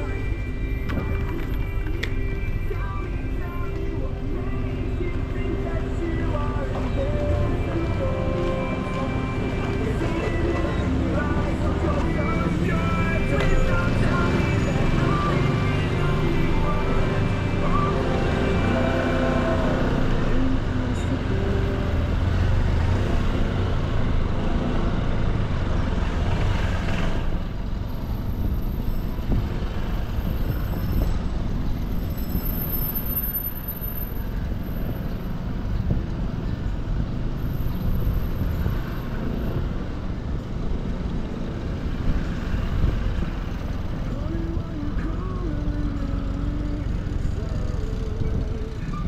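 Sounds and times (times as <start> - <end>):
wind and road noise: 0.0 - 49.0.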